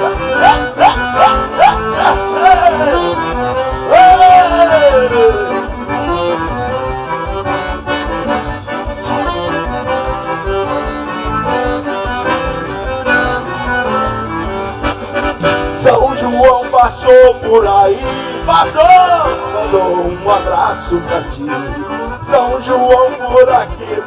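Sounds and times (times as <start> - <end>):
accordion band playing: 0.0 - 24.0.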